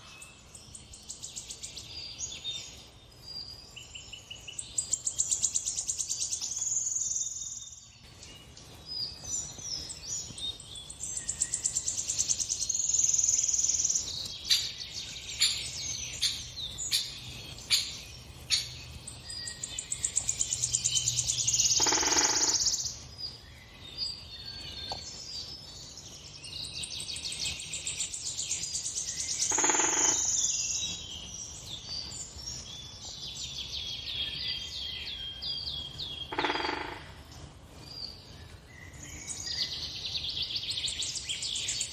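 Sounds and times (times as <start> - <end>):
lower bird calls: 0.0 - 23.4, 26.8 - 41.9
songbirds chirping and trilling: 0.0 - 41.9.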